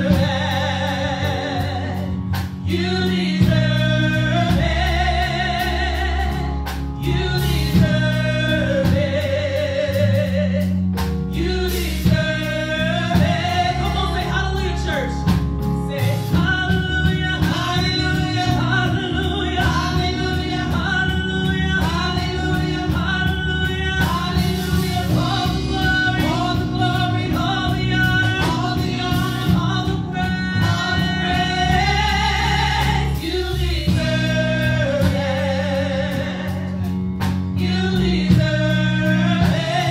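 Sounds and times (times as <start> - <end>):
instrumental accompaniment: 0.0 - 39.9
woman singing gospel song: 0.0 - 39.9.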